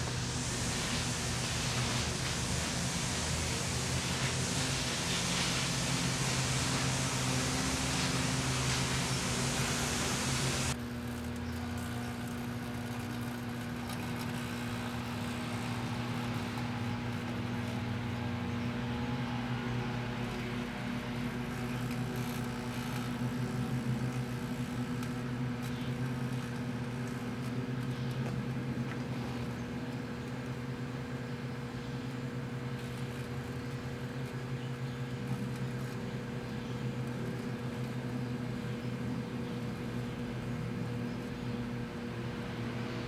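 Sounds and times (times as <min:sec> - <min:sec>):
microwave oven hum: 0:00.0 - 0:43.0.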